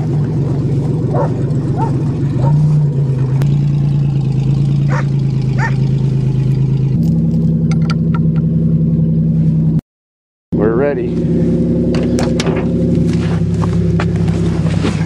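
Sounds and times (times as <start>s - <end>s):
car engine idling: 0.0s - 9.8s, 10.6s - 15.0s.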